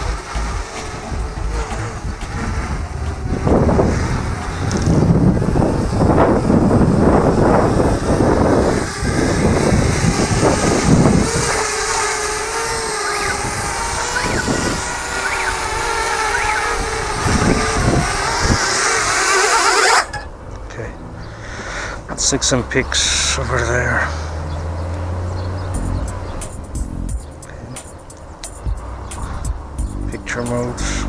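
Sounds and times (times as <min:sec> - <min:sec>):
wind buffeting microphone: 0:00.0 - 0:23.0, 0:24.3 - 0:31.0
drone rotors whining: 0:00.0 - 0:31.0.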